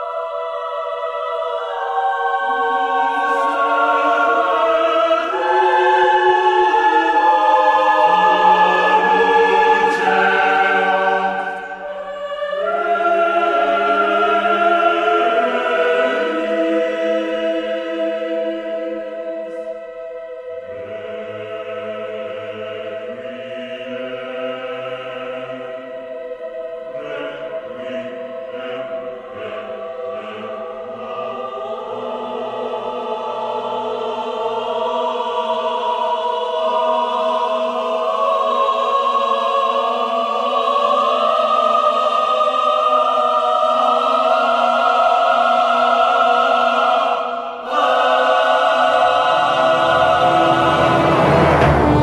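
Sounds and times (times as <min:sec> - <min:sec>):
orchestral music with choir: 0:00.0 - 0:52.0.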